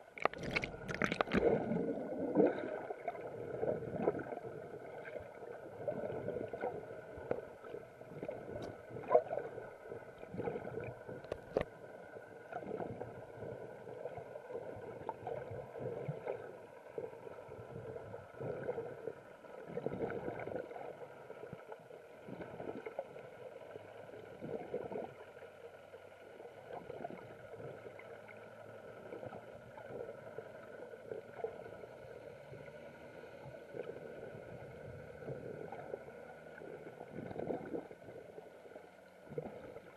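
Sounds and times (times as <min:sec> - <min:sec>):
faint steady hum: 0:00.0 - 0:39.9
underwater gurgling and sloshing: 0:00.0 - 0:39.9.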